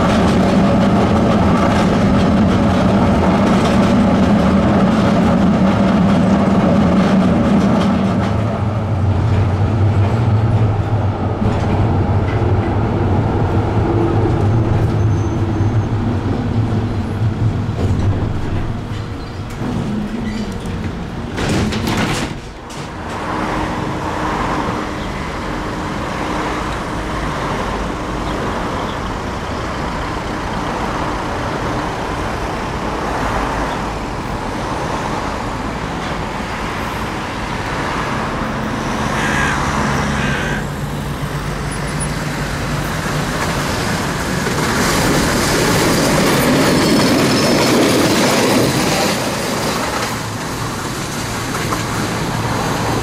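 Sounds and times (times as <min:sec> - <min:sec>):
tram wheels rumbling on rails: 0:00.0 - 0:53.0.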